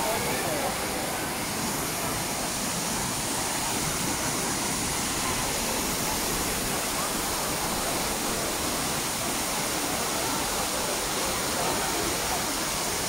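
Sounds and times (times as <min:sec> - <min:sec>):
waterfall pouring into a pool: 0:00.0 - 0:13.0.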